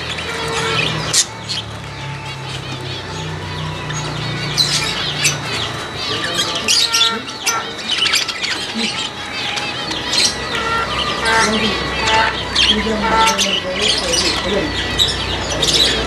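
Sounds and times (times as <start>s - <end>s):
many birds chirping and squawking: 0.0s - 16.0s.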